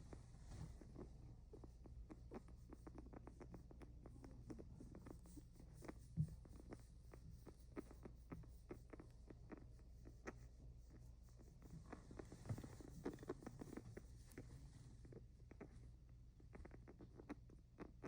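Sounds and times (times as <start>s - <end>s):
guinea pig clicking breaths: 0.0s - 18.0s.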